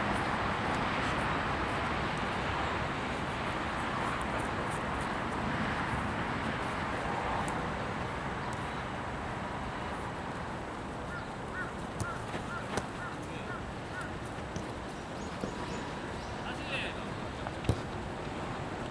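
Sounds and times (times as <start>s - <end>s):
outdoor background rush: 0.0s - 18.9s.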